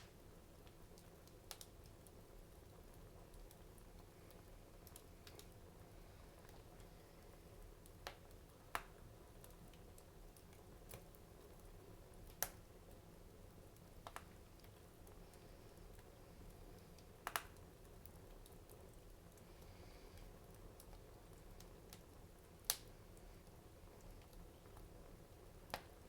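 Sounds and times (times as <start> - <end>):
faint low hiss: 0.0 - 26.0
wood fire crackling and popping: 0.0 - 26.0.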